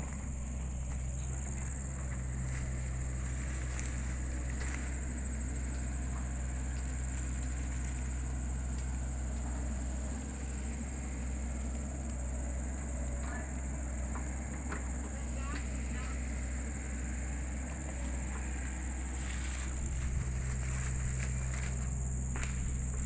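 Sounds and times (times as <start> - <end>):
insects chirring: 0.0 - 23.0
low hum: 0.0 - 23.0.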